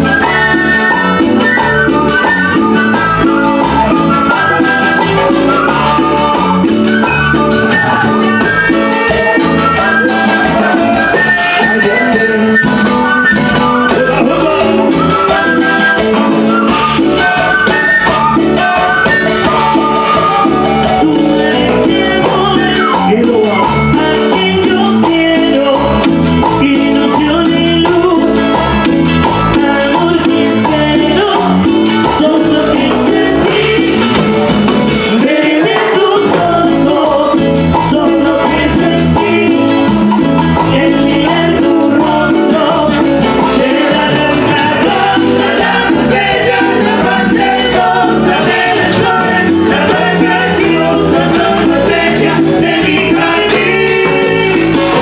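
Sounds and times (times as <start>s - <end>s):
latin dance band playing: 0.0s - 55.0s
lead vocal singing: 0.0s - 55.0s.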